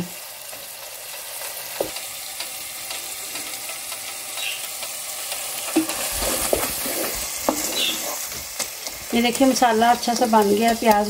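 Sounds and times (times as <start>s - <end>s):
masala sizzling in a pot: 0.0s - 11.0s.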